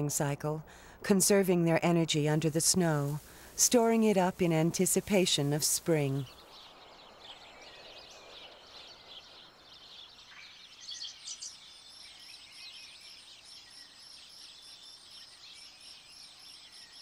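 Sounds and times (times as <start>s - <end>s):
small birds chirping: 1.2s - 17.0s.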